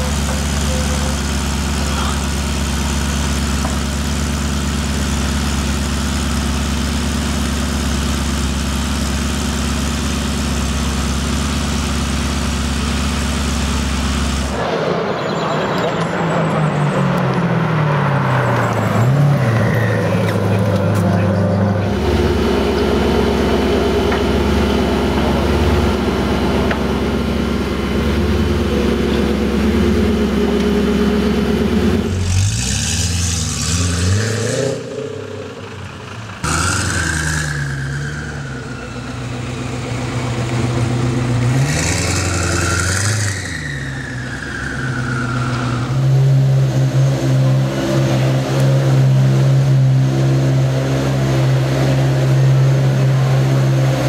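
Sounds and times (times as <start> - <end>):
supercar engine idling and revving: 0.0 - 54.0.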